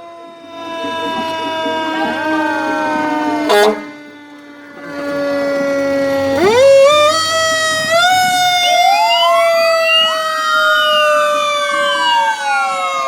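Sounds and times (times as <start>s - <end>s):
fire truck sirens wailing: 0.0s - 13.0s.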